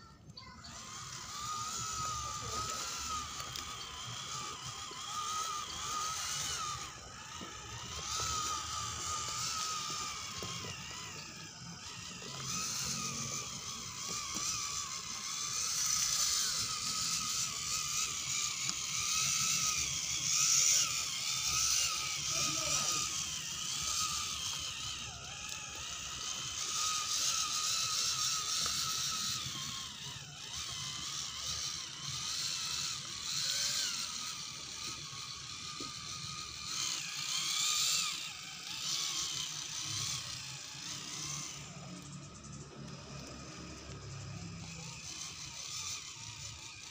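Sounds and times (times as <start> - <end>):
electric motor and gearbox whining: 0.0 - 46.9.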